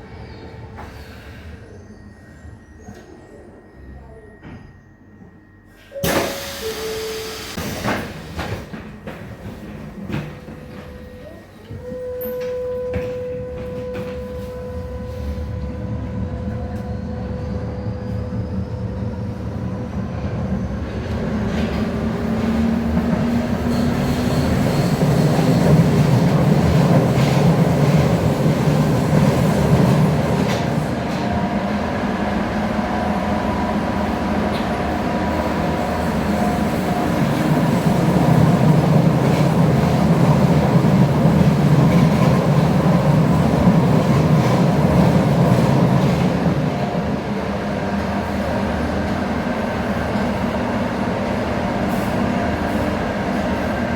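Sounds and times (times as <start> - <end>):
train whine: 0.0 - 53.9
wheels rumbling on rail: 0.0 - 53.9.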